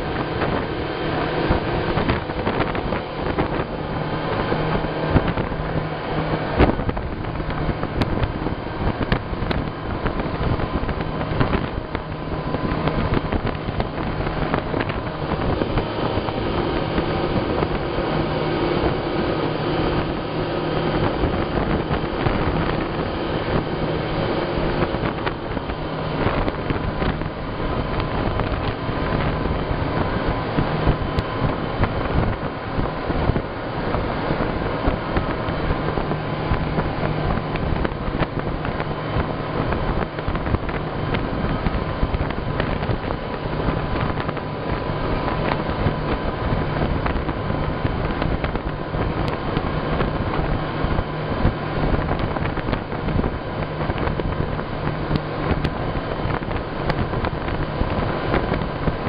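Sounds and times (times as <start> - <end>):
boat motor running: 0.0 - 59.0
wind over microphone: 0.0 - 59.0.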